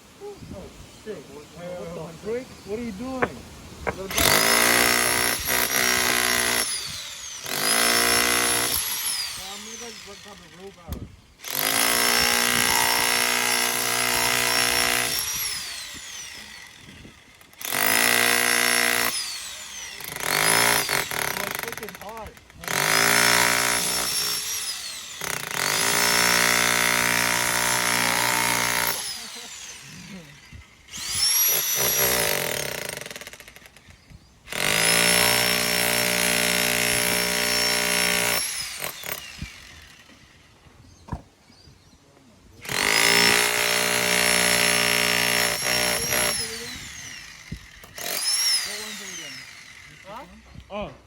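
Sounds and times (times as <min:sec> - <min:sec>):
electric jackhammer hammering: 0:03.2 - 0:40.5, 0:42.6 - 0:50.7.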